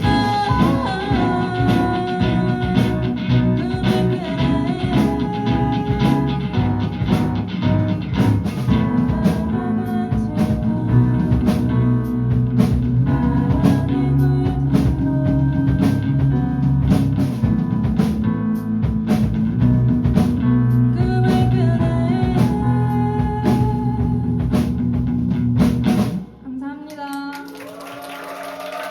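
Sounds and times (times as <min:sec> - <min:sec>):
drums keeping steady beat: 0:00.0 - 0:26.3
live rock band playing: 0:00.0 - 0:26.3.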